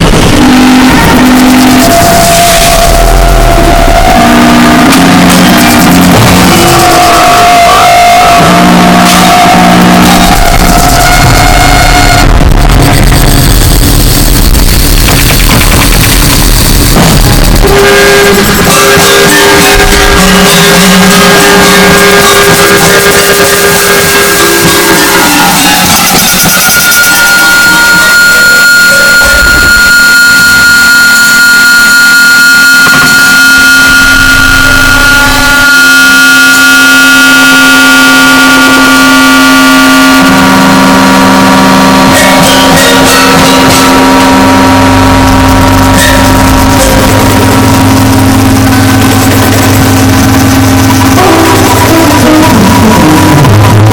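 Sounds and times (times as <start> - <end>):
harsh distorted noise music: 0.0 - 53.9.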